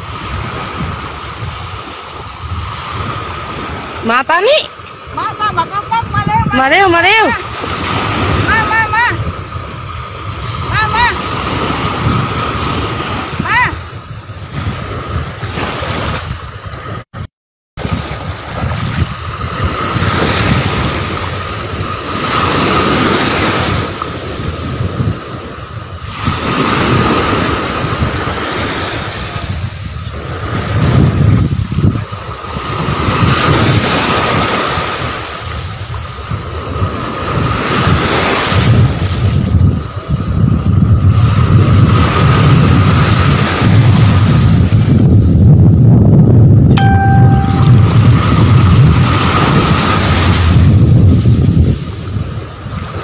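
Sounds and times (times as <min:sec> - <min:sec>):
sea waves washing onto beach: 0:00.0 - 0:17.2, 0:17.8 - 0:53.0
wind buffeting microphone: 0:00.0 - 0:53.0.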